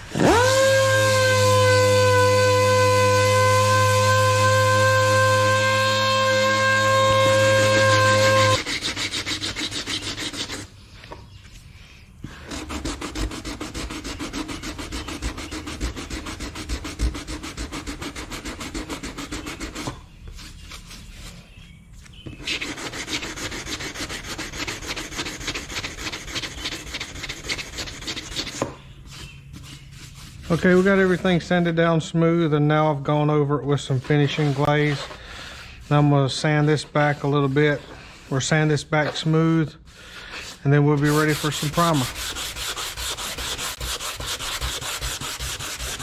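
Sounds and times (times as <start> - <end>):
sanding rasping scrape: 0.3 - 10.7, 12.3 - 21.6, 22.3 - 32.1, 33.1 - 46.0.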